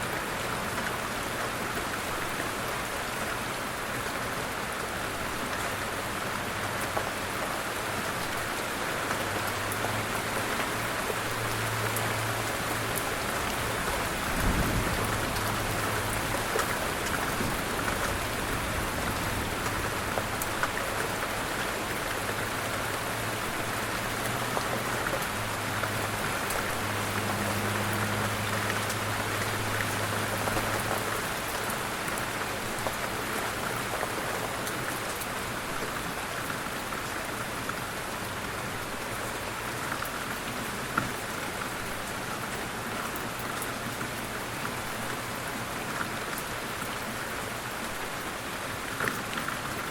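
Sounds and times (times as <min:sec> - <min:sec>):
light rain falling: 0:00.0 - 0:49.9.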